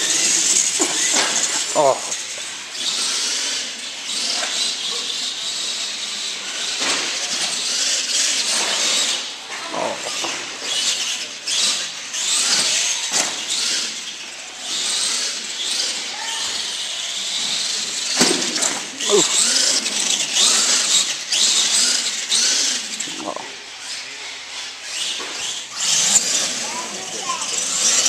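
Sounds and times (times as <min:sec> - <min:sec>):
rc trucks motors hissing: 0:00.0 - 0:28.0.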